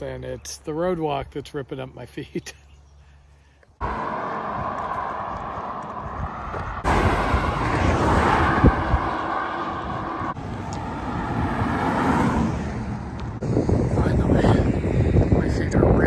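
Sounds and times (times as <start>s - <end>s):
highway traffic passing: 1.7s - 16.0s.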